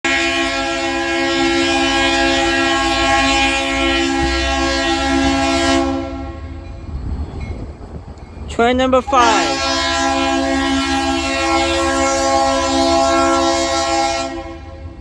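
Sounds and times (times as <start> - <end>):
locomotive air horn: 0.0 - 6.6, 9.1 - 15.0
rumble of moving train: 0.1 - 15.0.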